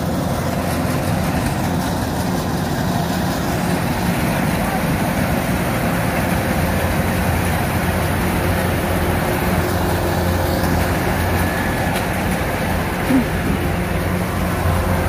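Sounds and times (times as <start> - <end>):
combine harvester diesel engine drone: 0.0 - 15.0.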